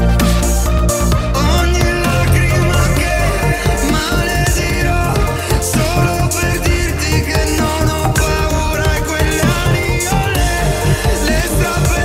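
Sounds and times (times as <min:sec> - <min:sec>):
song with steady beat: 0:00.0 - 0:12.0.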